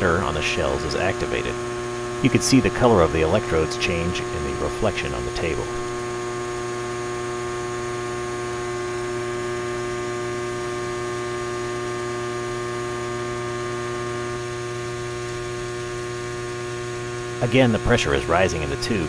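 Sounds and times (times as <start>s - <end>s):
transformer humming and buzzing: 0.0s - 19.0s.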